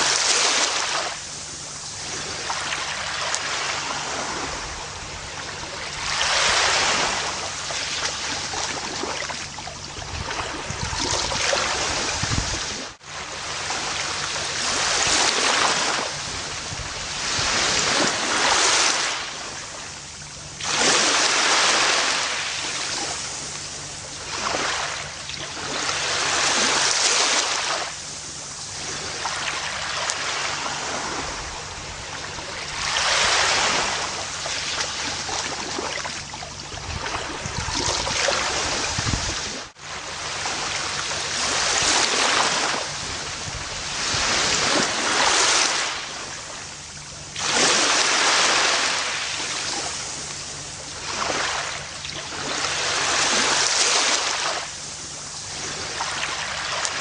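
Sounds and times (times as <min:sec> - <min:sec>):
ocean waves washing onto beach: 0:00.0 - 0:57.0.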